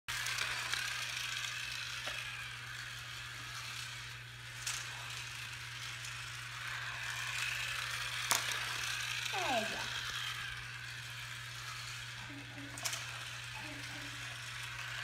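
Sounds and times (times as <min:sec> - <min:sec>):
toy car motor whirring: 0:00.1 - 0:15.0.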